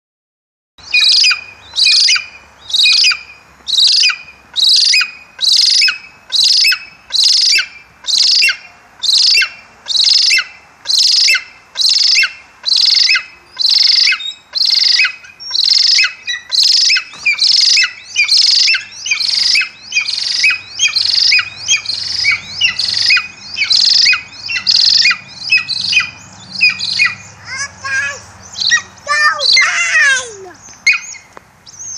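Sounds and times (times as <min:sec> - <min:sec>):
eagle calling: 0:00.8 - 0:31.9.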